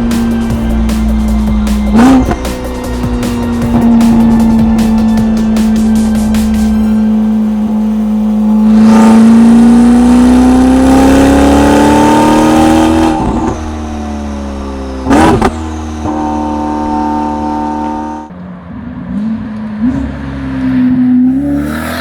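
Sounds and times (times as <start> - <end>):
sports car engine drone: 0.0 - 22.0.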